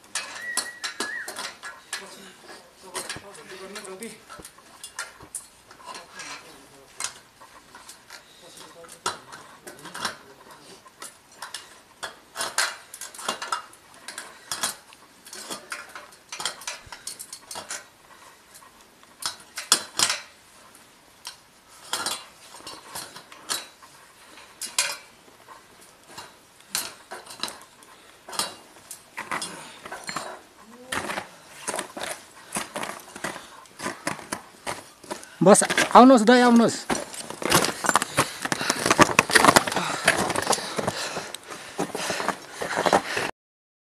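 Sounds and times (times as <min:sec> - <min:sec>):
crampons clinking on metal ladder: 0:00.0 - 0:43.3.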